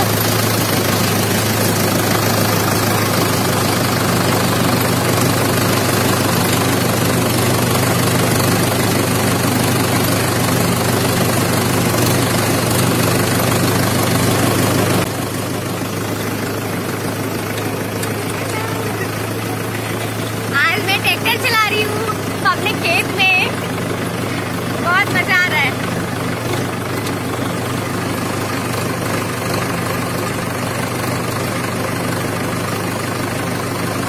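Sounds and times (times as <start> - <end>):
tractor engine droning: 0.0 - 34.0.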